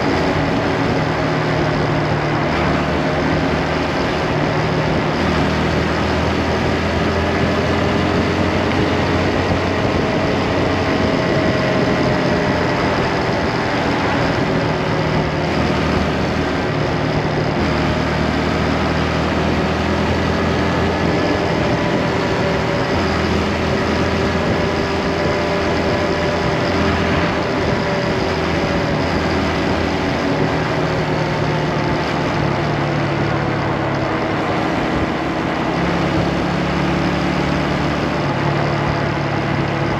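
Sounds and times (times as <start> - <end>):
motorcycle engine running: 0.0 - 39.9
riding wind rush: 0.0 - 39.9.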